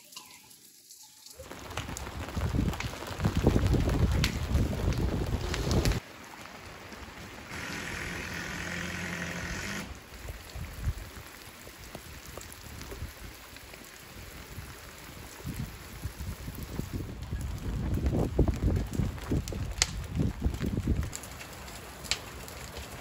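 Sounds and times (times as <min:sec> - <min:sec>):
rain on a plastic tarp: 0:00.0 - 0:23.0.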